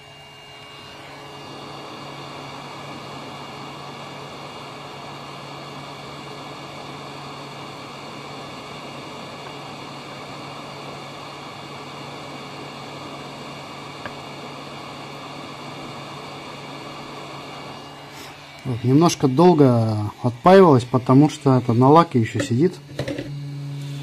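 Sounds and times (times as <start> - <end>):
hot air blower hissing: 0.0 - 24.0.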